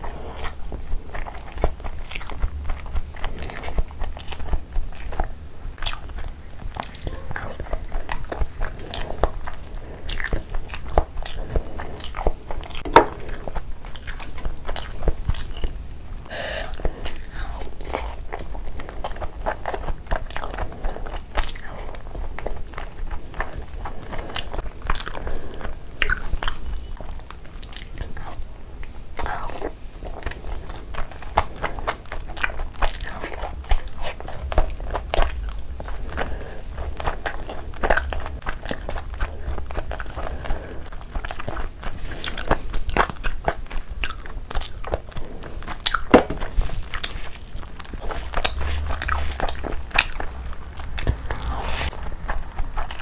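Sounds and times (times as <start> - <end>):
wet chewing and lip smacking: 0.0 - 15.8, 16.6 - 53.0.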